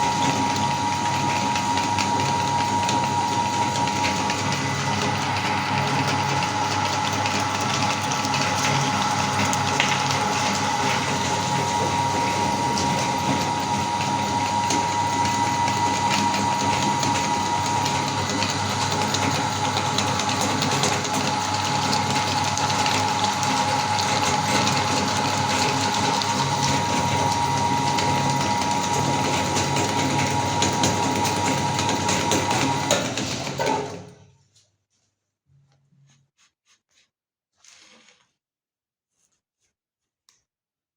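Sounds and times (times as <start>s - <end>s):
electric meat grinder whining: 0.0s - 34.2s.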